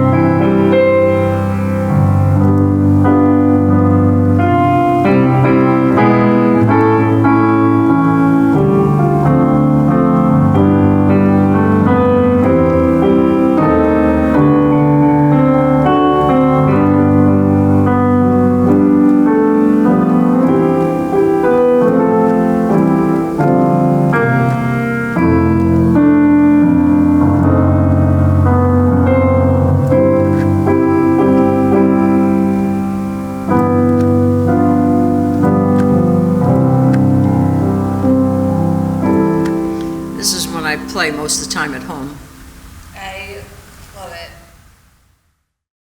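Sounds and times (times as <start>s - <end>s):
solo piano worship song: 0.0s - 44.9s.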